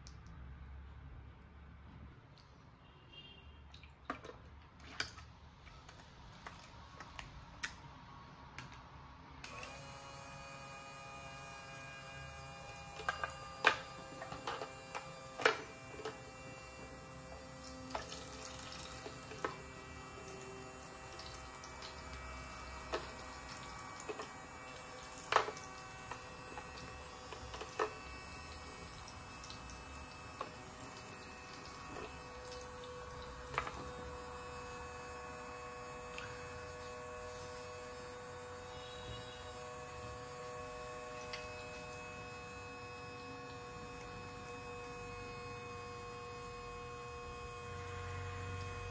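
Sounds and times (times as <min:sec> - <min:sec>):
electrical hum: 0:06.6 - 0:48.9.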